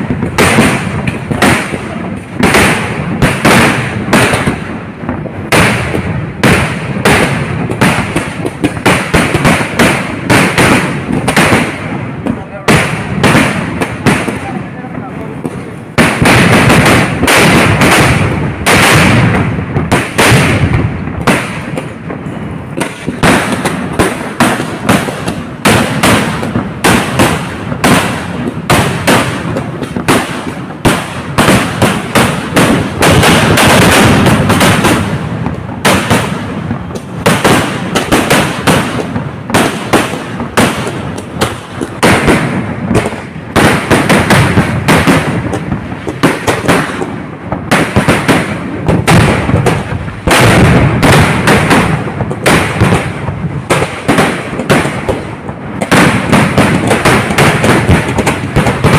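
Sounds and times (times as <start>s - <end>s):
fireworks bangs and cracks: 0.0s - 58.9s.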